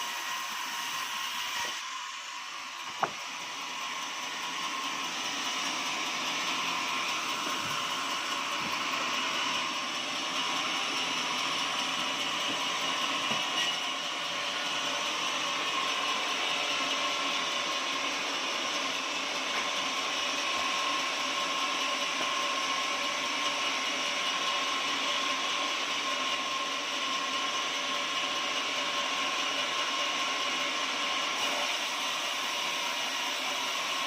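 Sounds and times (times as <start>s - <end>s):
sawmill running with whine: 0.0s - 34.0s.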